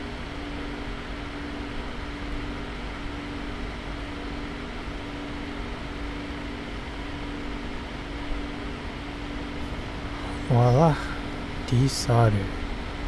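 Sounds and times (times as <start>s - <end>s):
extractor fan running: 0.0s - 13.0s.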